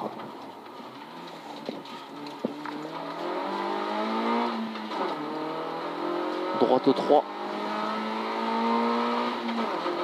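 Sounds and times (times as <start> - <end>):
rally car engine accelerating: 1.0 - 10.0.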